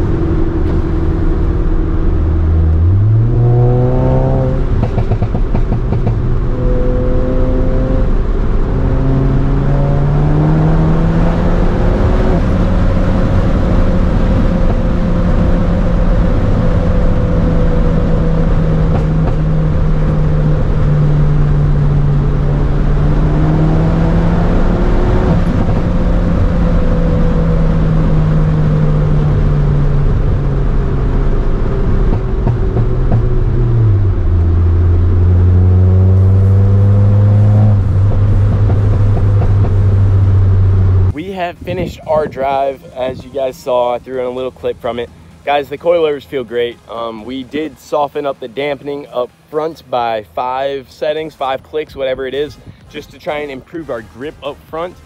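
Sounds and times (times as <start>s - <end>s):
car engine accelerating: 0.0s - 49.6s.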